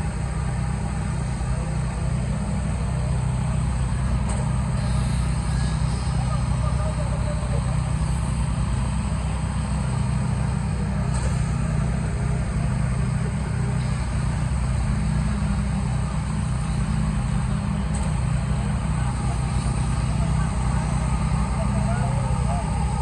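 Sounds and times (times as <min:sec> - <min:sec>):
machinery engine droning: 0:00.0 - 0:23.0.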